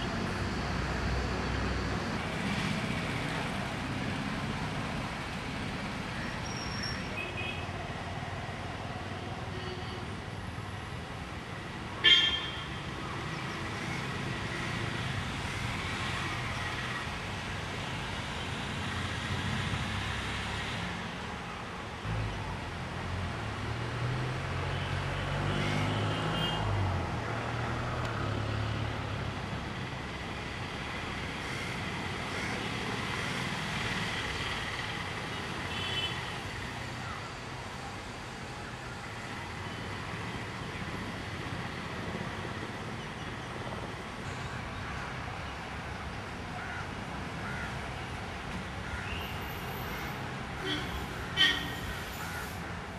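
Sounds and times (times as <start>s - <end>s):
road traffic: 0.0s - 52.9s.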